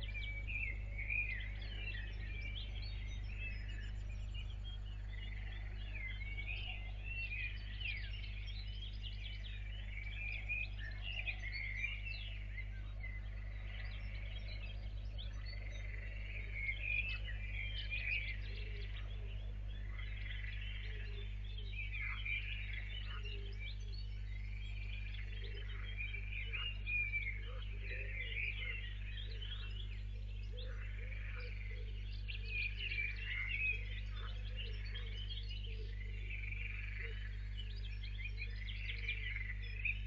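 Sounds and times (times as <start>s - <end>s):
small birds chirping and singing: 0.0s - 40.0s
steady low hum: 0.0s - 40.0s.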